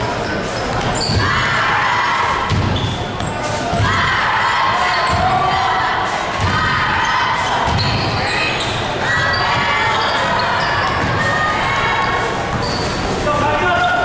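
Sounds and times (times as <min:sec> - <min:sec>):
sneakers squeaking on floor: 0:00.0 - 0:01.6, 0:02.4 - 0:04.0, 0:04.8 - 0:05.4, 0:06.4 - 0:14.0
people shouting and chanting: 0:00.8 - 0:14.0.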